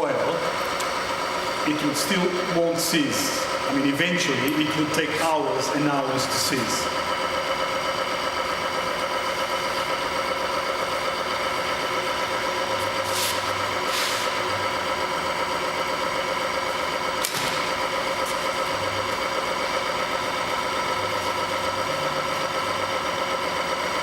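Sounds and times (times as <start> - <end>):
test machine motor whine: 0.0 - 24.0.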